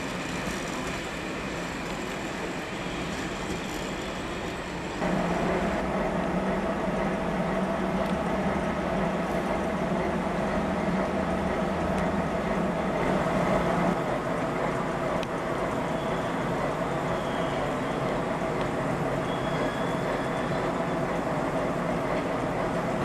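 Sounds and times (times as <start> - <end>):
train running: 0.0 - 23.0.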